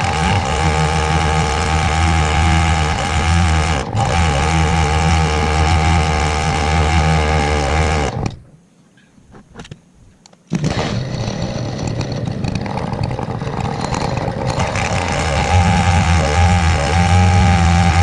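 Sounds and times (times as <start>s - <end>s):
chainsaw cutting log: 0.0s - 8.4s, 10.5s - 18.0s.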